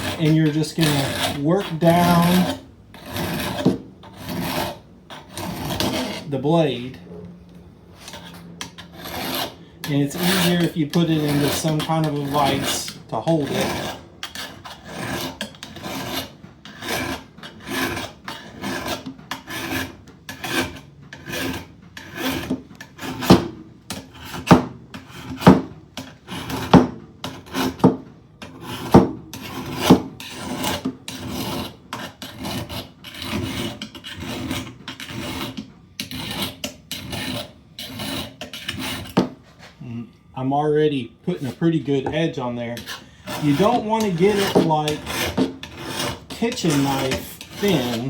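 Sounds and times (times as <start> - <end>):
hand file rasping on metal blade: 0.0 - 6.8, 8.0 - 39.3, 41.3 - 48.0.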